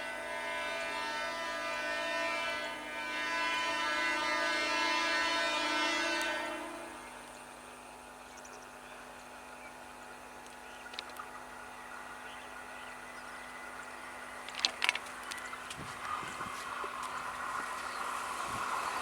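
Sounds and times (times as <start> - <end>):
steady low hum: 3.2 - 19.0.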